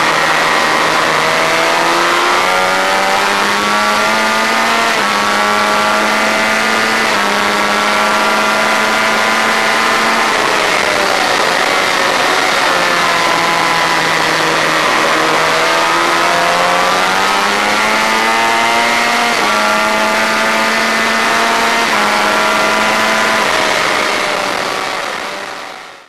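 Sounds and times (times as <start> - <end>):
motorcycle engine at high revs: 0.0 - 26.0.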